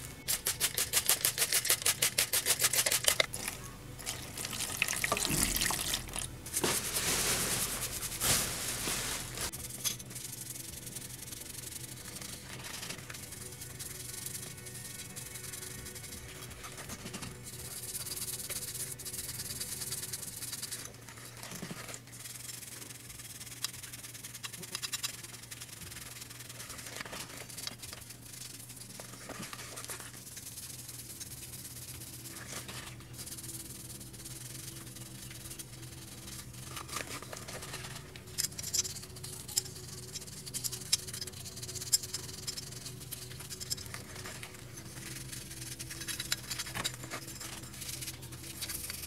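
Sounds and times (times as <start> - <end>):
brush scrubbing in soapy water: 0.3 - 49.0.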